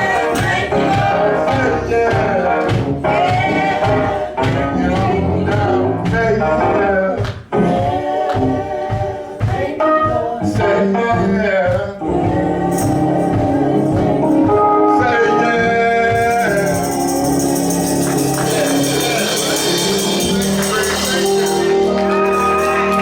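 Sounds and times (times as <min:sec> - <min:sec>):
gospel singing with instruments: 0:00.0 - 0:23.0.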